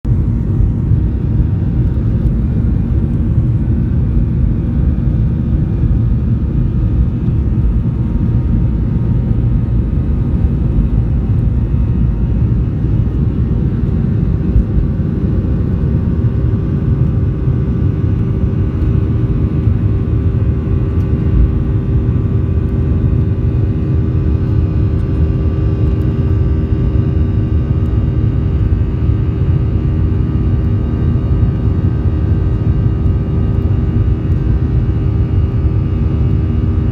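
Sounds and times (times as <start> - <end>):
jet engines deep rumble: 0.0 - 36.9
steady engine tones: 0.1 - 36.9.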